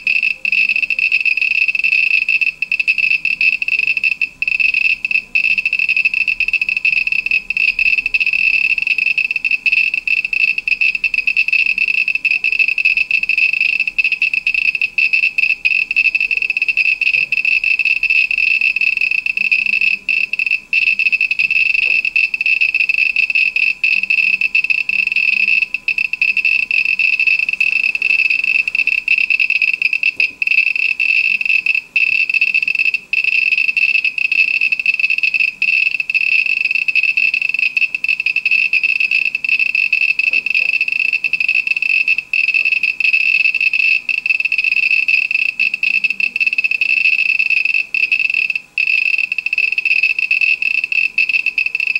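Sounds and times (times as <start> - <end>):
geiger counter buzzing clicks: 0.0 - 51.9.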